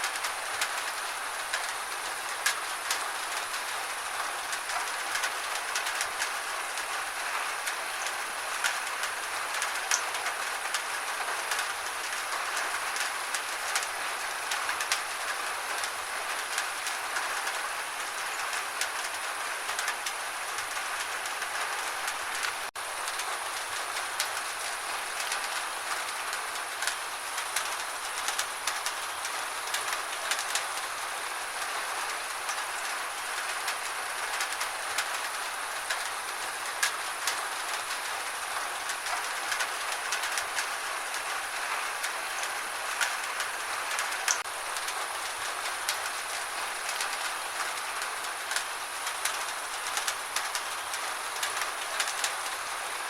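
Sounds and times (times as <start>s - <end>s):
gentle rain falling: 0.0s - 53.0s.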